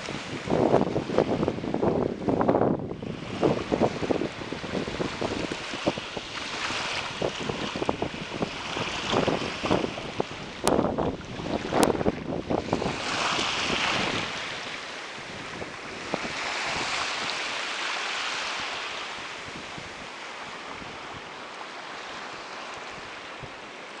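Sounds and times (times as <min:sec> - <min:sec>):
small waves washing on sand: 0:00.0 - 0:24.0
wind buffeting microphone: 0:00.0 - 0:24.0.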